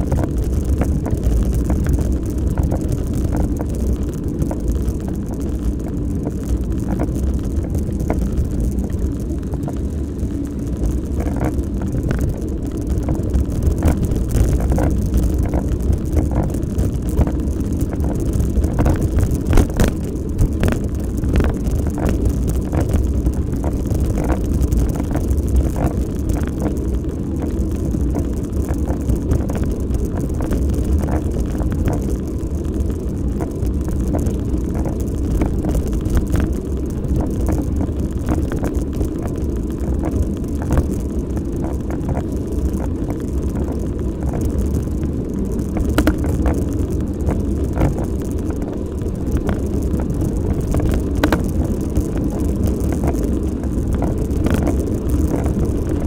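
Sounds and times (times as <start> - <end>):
bicycle tyre noise: 0.0 - 56.0
wind on microphone: 0.0 - 56.0.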